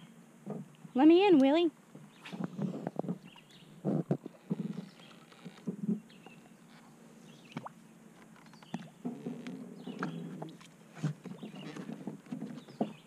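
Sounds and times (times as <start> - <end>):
water sloshing against boat hull: 0.4 - 13.0.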